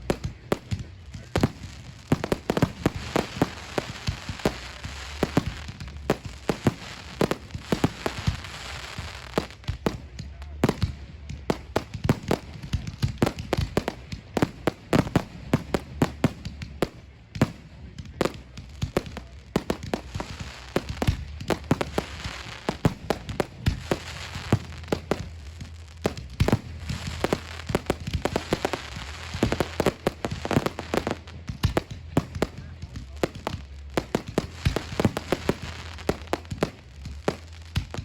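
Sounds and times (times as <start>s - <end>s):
fireworks bangs: 0.0s - 38.0s
fireworks crackling: 0.0s - 38.0s.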